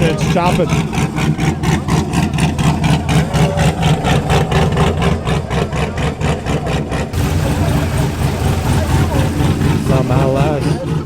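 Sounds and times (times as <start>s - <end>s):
car engine idling lopey: 0.0s - 11.0s.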